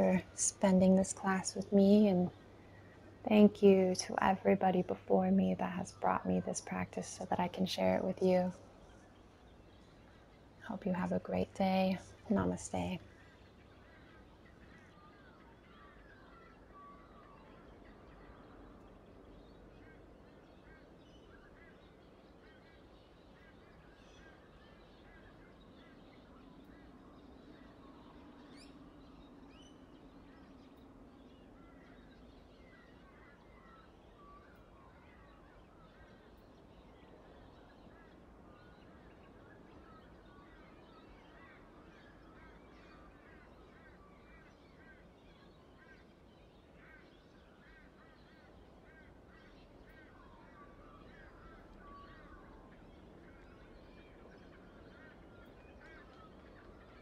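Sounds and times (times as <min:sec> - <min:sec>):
faint bird chirps: 0:00.0 - 0:57.0.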